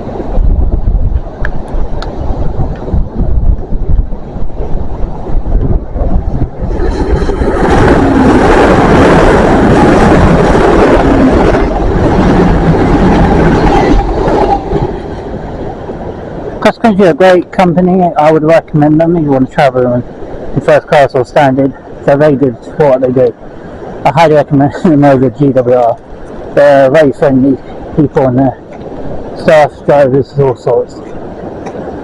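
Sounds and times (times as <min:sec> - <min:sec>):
diesel train passing: 0:00.0 - 0:32.0
wind buffeting microphone: 0:00.0 - 0:32.0.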